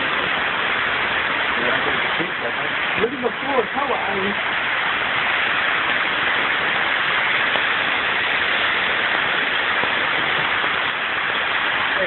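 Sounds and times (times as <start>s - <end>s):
heavy rain and hail: 0.0s - 12.0s.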